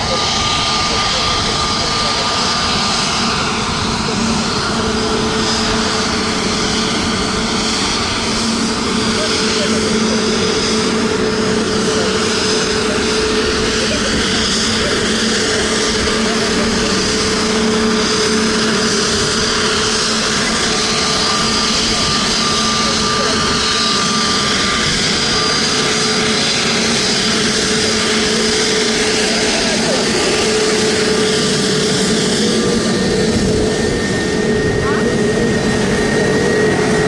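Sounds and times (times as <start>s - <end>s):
high engine whine: 0.0s - 37.0s
jet engines rushing drone: 0.0s - 37.0s.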